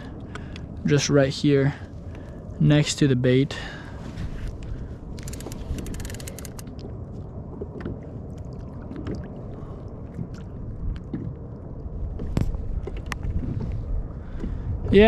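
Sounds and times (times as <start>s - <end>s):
muffled water sloshing and gurgling: 0.0s - 15.0s.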